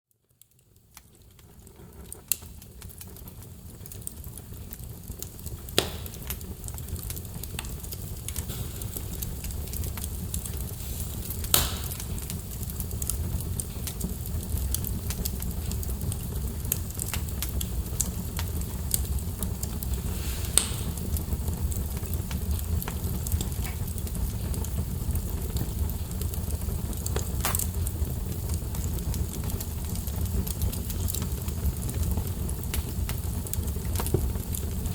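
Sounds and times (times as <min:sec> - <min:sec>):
fire crackling and popping: 0:00.1 - 0:34.9
low rumble of flames: 0:00.2 - 0:34.9.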